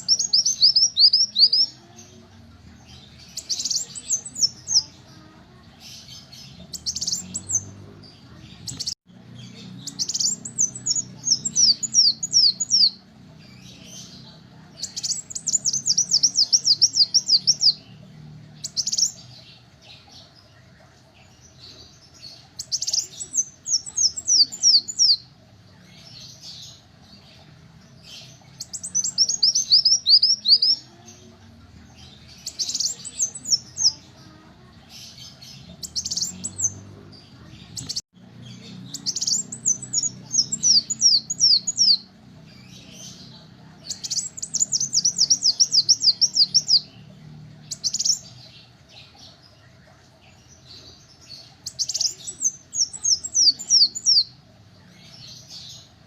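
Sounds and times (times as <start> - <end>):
sunbird singing: 0.0 - 56.0.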